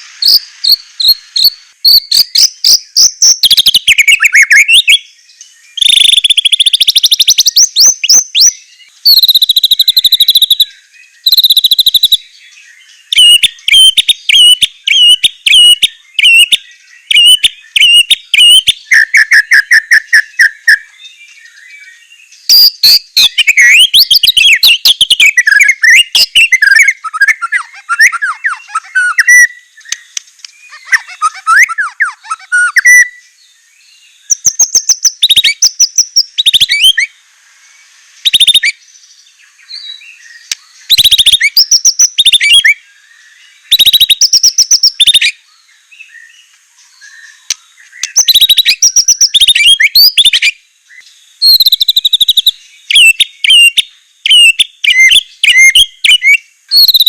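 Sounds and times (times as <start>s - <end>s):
bird singing whistles and trills: 0.0s - 37.1s, 38.2s - 57.0s.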